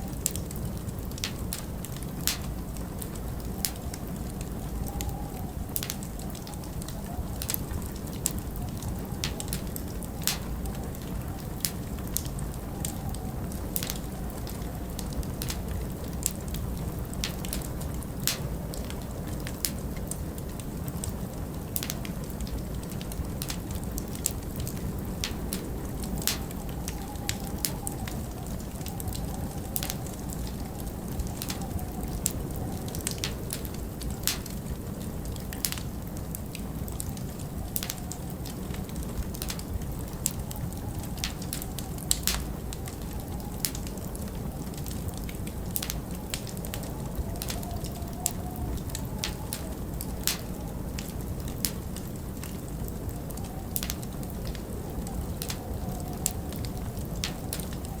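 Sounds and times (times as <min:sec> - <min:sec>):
wind whistling: 0:00.0 - 0:58.0
wood fire crackling: 0:00.0 - 0:58.0.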